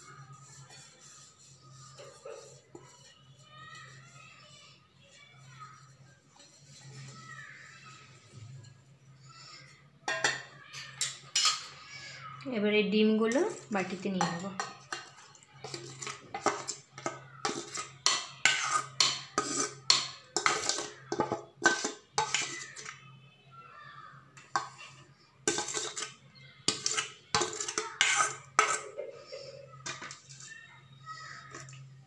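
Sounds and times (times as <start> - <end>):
metal spoon scraping steel bowls: 0.0 - 12.4, 13.2 - 23.1, 24.0 - 32.0.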